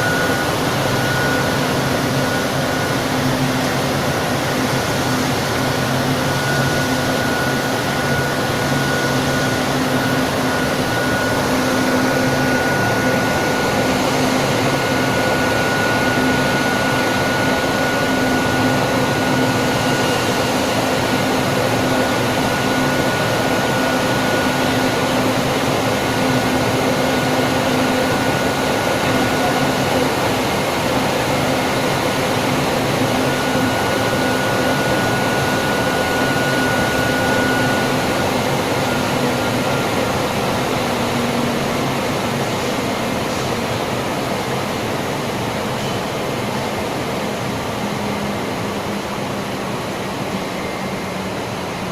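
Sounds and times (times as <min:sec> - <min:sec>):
steady high whine: 0:00.0 - 0:51.9.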